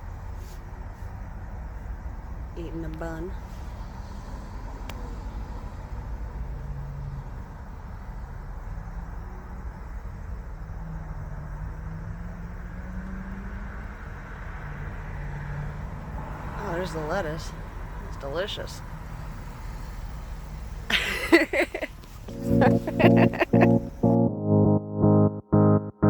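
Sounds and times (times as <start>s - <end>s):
car engine idling: 0.0s - 24.2s.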